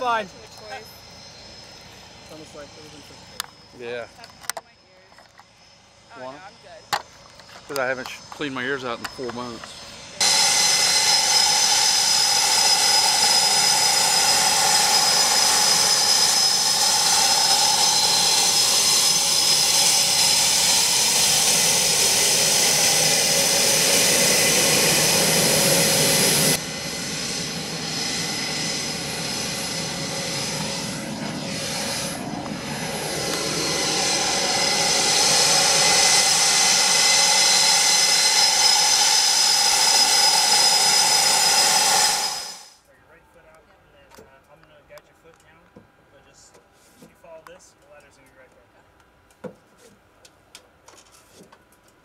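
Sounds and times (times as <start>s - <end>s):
jet engines whining: 0.0s - 42.8s.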